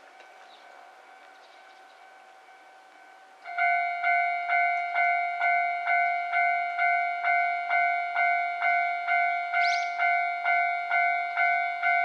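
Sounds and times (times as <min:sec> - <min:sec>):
level crossing alarm bell: 0:00.9 - 0:12.0.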